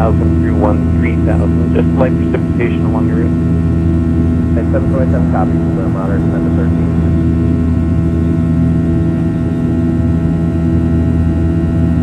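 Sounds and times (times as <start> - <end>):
jet engines droning in cabin: 0.0 - 12.0.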